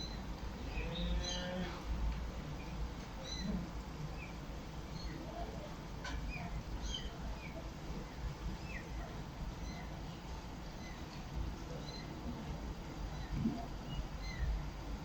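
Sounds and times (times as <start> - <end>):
small birds chirping: 0.0 - 1.7, 2.5 - 5.4, 6.0 - 12.2, 13.0 - 14.6.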